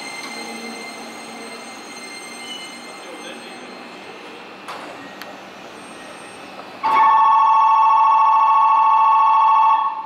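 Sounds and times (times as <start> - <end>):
low station noise: 0.0 - 10.0.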